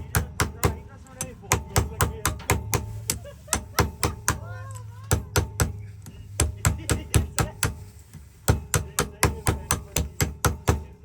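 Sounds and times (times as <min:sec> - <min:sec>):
hammer tapping on metal: 0:00.0 - 0:11.0.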